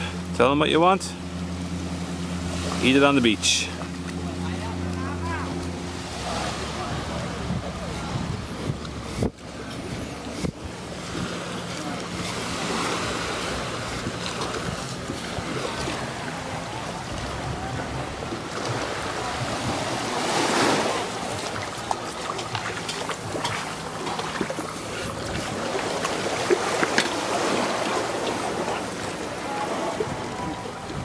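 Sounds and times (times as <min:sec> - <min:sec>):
low engine hum: 0:00.0 - 0:31.0
small waves washing on beach: 0:00.0 - 0:31.0
wind buffeting microphone: 0:04.2 - 0:31.0.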